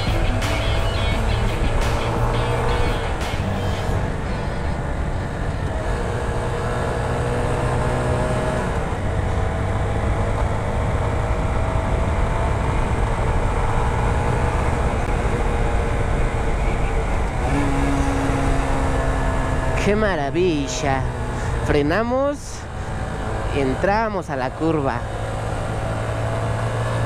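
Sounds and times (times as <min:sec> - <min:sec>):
motorcycle engine running: 0:00.0 - 0:27.0
road noise: 0:00.0 - 0:27.0.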